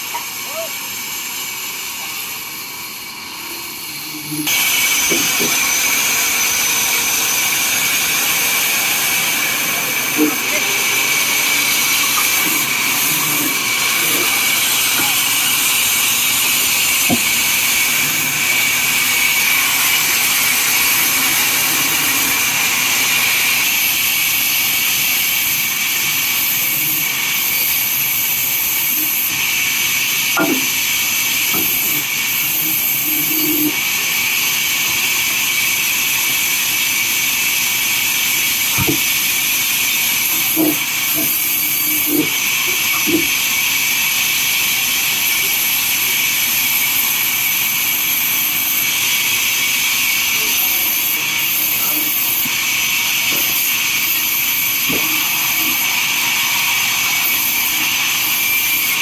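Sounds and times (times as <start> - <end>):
saw cutting through wood: 0.0 - 59.0.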